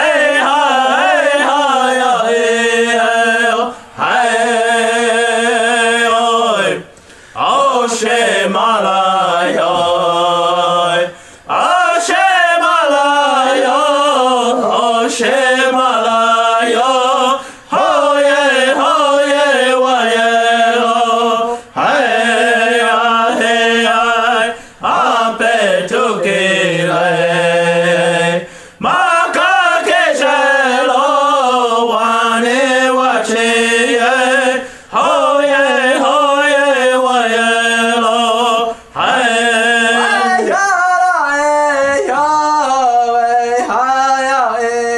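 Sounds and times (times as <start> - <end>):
person chanting a prayer song: 0.0 - 44.9.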